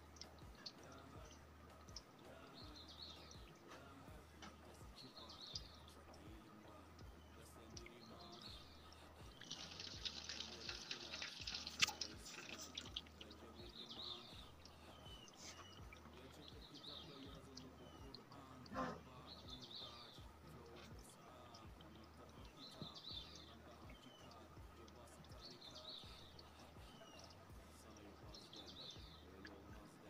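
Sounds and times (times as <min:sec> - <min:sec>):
faint bird chirps: 0:00.0 - 0:30.0
low steady hum: 0:00.0 - 0:30.0.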